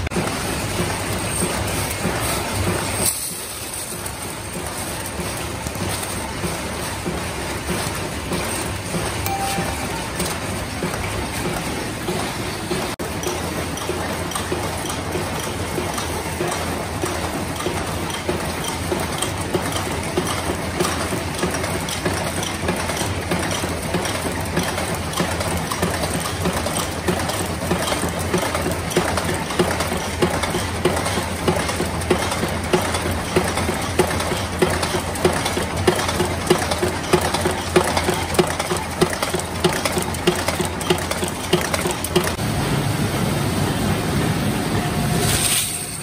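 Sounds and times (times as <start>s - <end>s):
machine knocking evenly: 0.0s - 42.5s
steady machinery hum: 0.0s - 45.2s.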